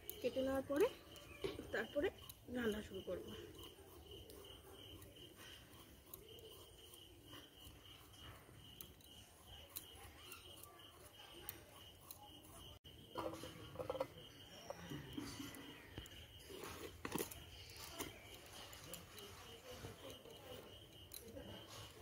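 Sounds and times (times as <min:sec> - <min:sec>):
insect chirping: 0:00.0 - 0:22.0
knife peeling and cutting potatoes: 0:00.0 - 0:22.0.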